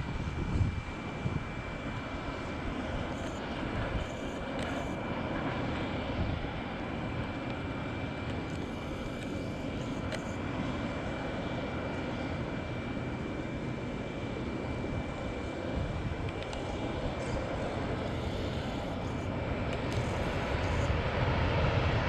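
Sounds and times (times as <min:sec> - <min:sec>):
jet engines rushing with whine: 0:00.0 - 0:22.0.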